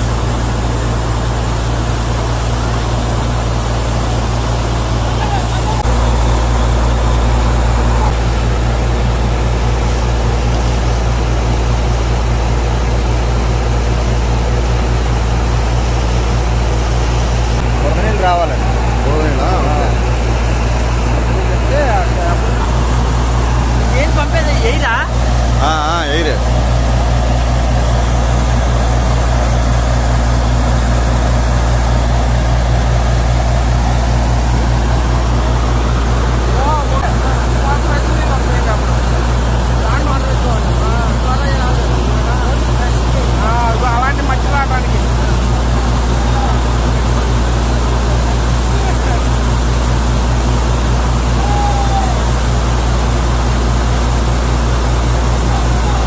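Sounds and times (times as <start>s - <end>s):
air compressor droning: 0.0s - 56.0s
heavy diesel engine running: 0.0s - 56.0s.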